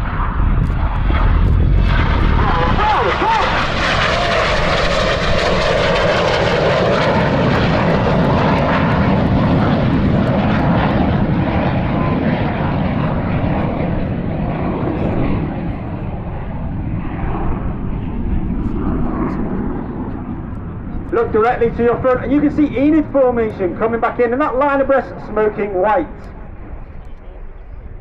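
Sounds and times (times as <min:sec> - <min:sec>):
jets passing low: 0:00.0 - 0:28.0.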